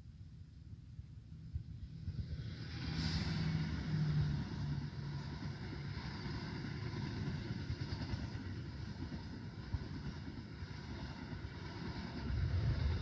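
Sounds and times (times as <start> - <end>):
train wheels rumbling on track: 0.8 - 13.0.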